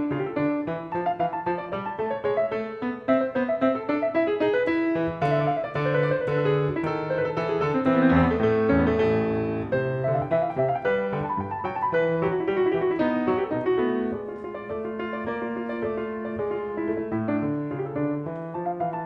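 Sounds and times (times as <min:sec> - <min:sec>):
calm solo piano music: 0:00.0 - 0:19.0.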